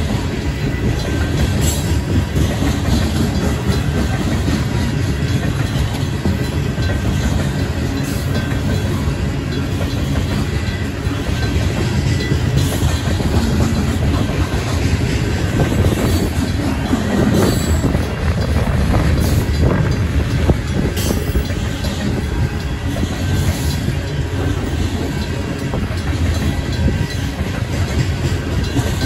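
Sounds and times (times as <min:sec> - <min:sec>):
crossing bells ringing: 0:00.0 - 0:29.0
train wheels clacking on rails: 0:00.0 - 0:29.0.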